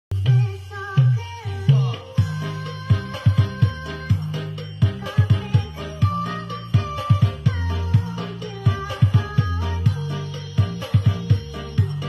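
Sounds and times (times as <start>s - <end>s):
loud dance music: 0.1s - 12.0s.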